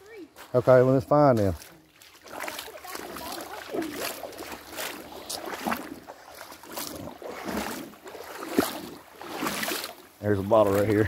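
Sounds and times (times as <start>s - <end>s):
feet wading through water: 0.0s - 11.0s.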